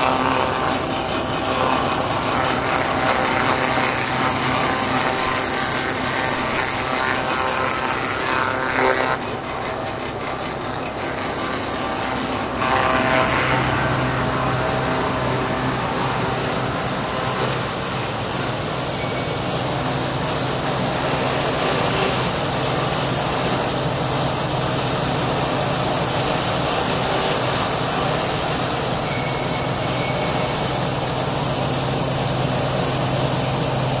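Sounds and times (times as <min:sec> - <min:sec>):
wood crusher running: 0:00.0 - 0:34.0.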